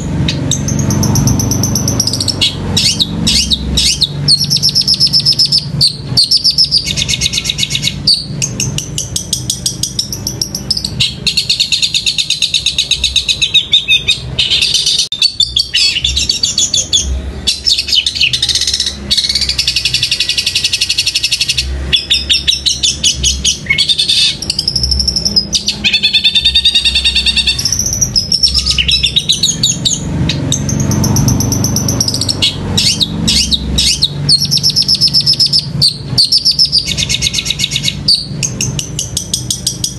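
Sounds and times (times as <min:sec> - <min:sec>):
imitated sparrow calls: 0:00.0 - 0:39.9
shrike singing high chirps and trills: 0:00.0 - 0:39.9.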